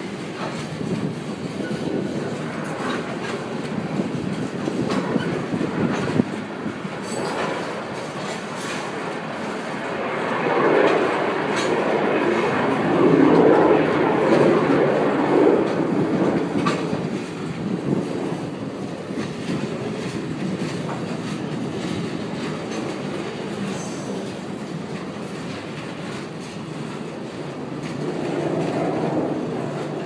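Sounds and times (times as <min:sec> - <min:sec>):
sharp clicks of train wheels: 0:00.0 - 0:30.0
train wheels rumbling on rails: 0:00.0 - 0:30.0.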